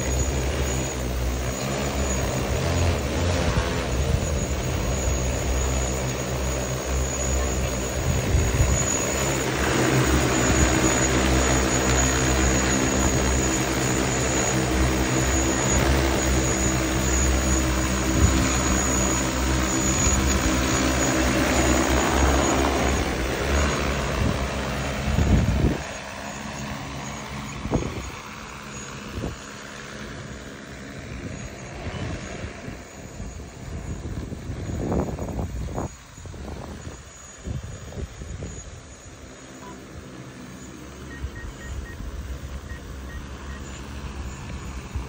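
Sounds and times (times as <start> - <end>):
drone rotors hovering: 0.0 - 45.0.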